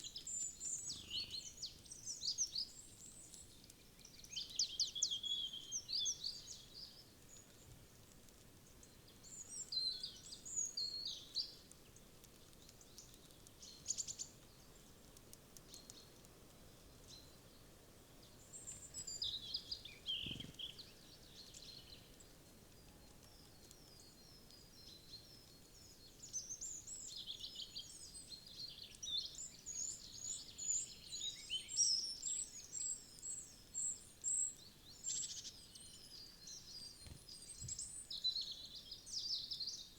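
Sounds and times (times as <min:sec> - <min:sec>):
songbirds chirping: 0:00.0 - 0:39.9
woodland background: 0:00.0 - 0:39.9.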